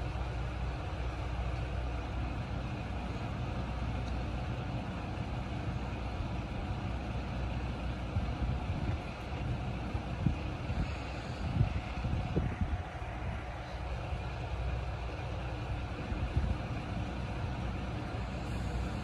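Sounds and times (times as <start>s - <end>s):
diesel railcar engine idling: 0.0s - 19.0s.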